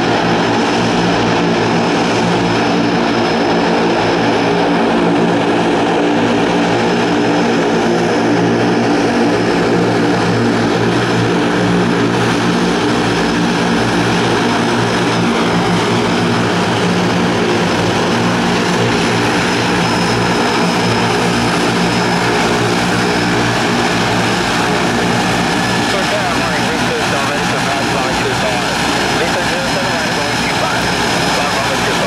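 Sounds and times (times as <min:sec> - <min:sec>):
propeller drone: 0:00.0 - 0:32.0.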